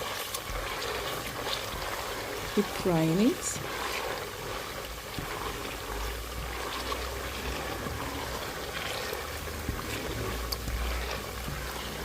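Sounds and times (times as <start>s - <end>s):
onions frying in oil: 0.0s - 12.0s.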